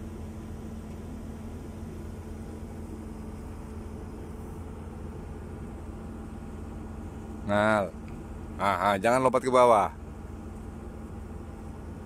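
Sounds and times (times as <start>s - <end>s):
ship machinery hum: 0.0s - 12.0s.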